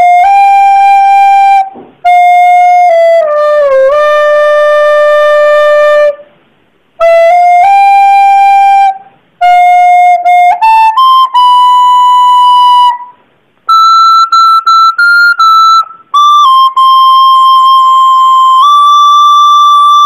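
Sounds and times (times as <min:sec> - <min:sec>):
recorder playing slow melody: 0:00.0 - 0:06.2, 0:07.0 - 0:20.0.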